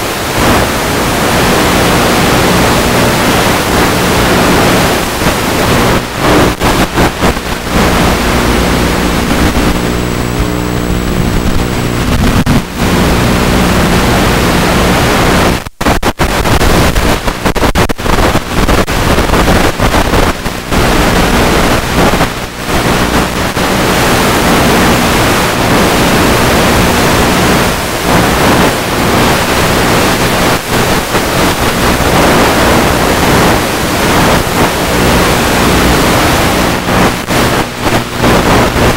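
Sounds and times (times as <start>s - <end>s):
wind rush over microphone: 0.1s - 38.9s.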